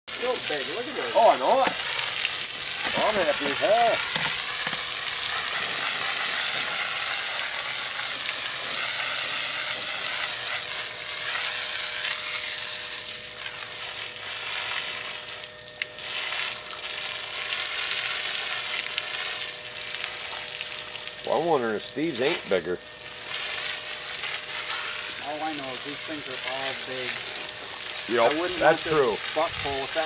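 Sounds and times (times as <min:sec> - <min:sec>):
hose water jet hissing: 0:00.1 - 0:30.0
water splashing on concrete: 0:00.1 - 0:30.0.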